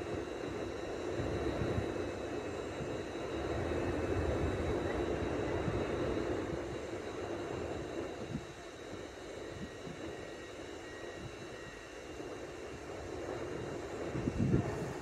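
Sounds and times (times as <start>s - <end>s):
train mechanical hum: 0.0s - 15.0s.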